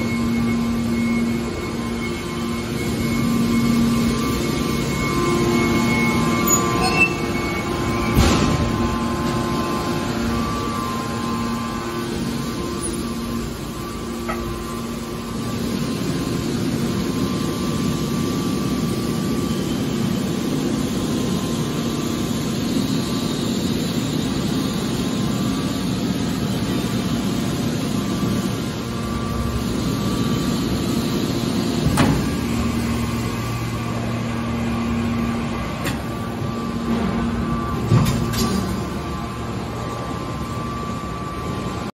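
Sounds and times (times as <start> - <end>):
hydraulic power unit humming: 0.0 - 41.9.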